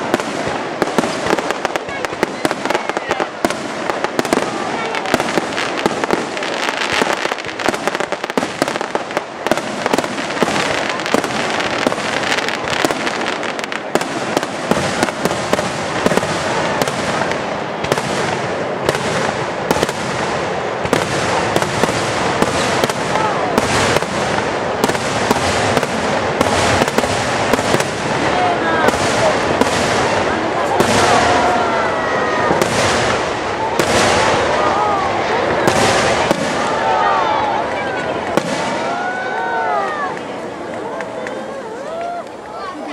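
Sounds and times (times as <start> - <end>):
firework crackling: 0.0 - 42.9.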